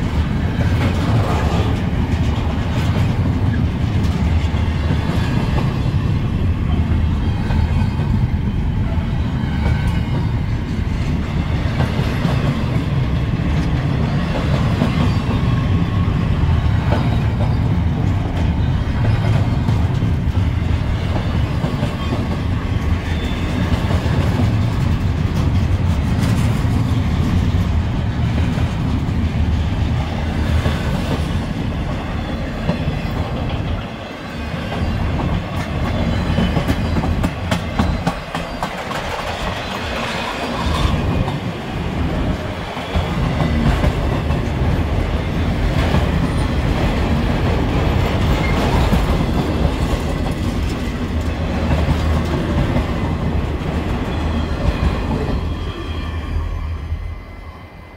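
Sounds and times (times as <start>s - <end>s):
wheels clacking over rail joints: 0.0s - 8.7s, 9.4s - 55.5s
freight train wheels rumbling: 0.0s - 57.9s.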